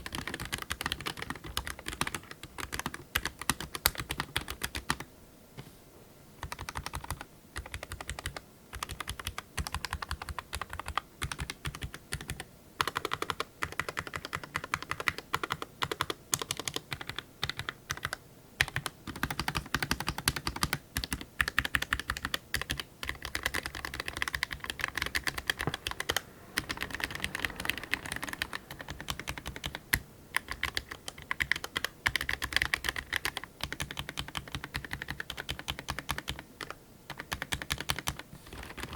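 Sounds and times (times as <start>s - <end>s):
mechanical keyboard typing: 0.0s - 5.1s, 6.4s - 38.9s.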